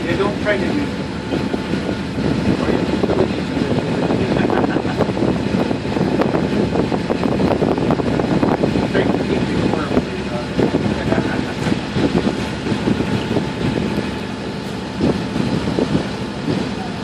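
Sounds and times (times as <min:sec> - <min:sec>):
boat engine: 0:00.0 - 0:17.0
water rushing past hull: 0:00.0 - 0:17.0.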